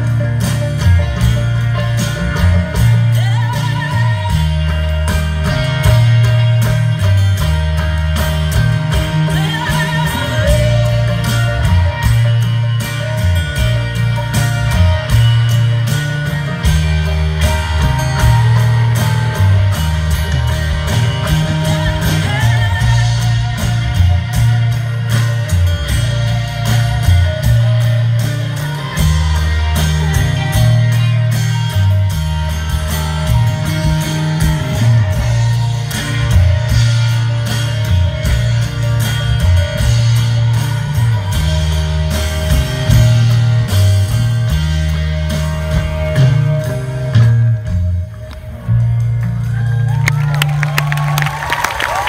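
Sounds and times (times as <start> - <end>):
bass line: 0.0 - 52.0
live folk rock band: 0.0 - 52.0.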